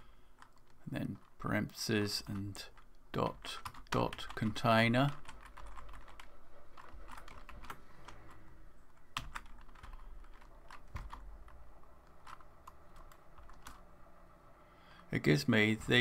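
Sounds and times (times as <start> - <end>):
faint keyboard typing: 0.0 - 14.0.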